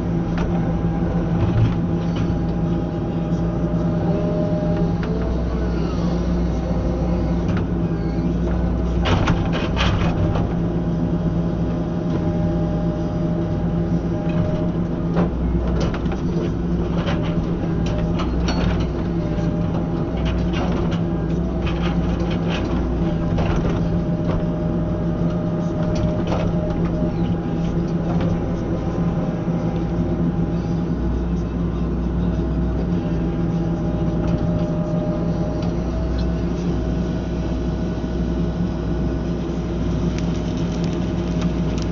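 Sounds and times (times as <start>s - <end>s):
excavator engine droning: 0.0s - 41.9s.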